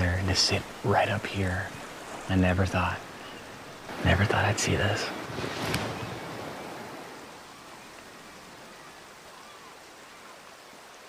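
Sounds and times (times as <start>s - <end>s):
faint stream rapids rushing: 0.0s - 11.0s.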